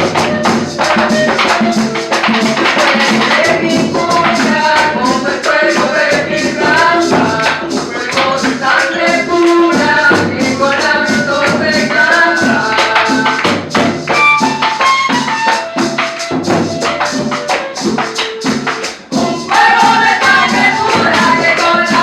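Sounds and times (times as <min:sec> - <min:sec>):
live cumbia band playing: 0:00.0 - 0:22.0
shaken percussion pulse: 0:00.0 - 0:22.0.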